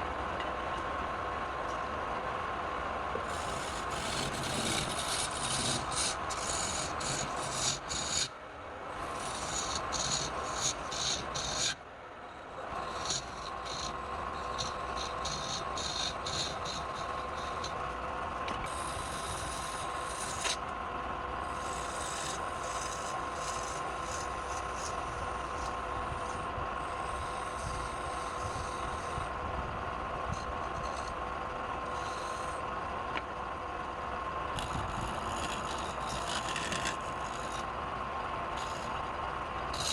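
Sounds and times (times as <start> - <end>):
tool scraping spinning wood: 3.2 - 20.6, 21.4 - 33.3, 34.5 - 37.8, 38.5 - 39.9
wood lathe whine: 3.2 - 20.6, 21.4 - 39.9.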